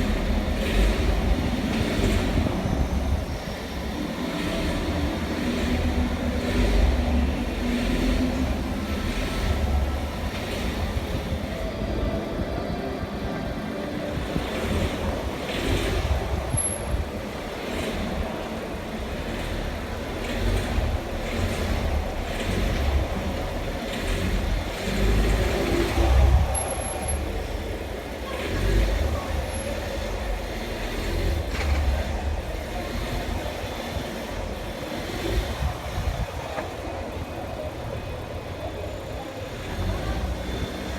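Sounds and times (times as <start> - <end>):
engine knocking: 0.0 - 11.7, 14.2 - 38.7
car engine running: 0.0 - 40.9.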